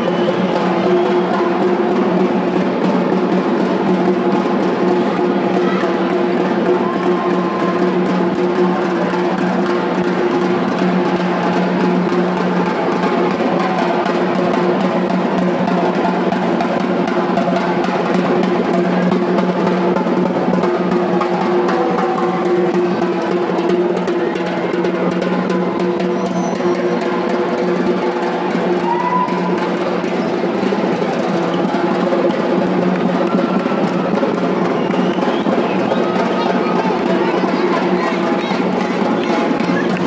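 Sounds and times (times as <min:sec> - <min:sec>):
drum band playing fast rhythm: 0:00.0 - 0:40.0.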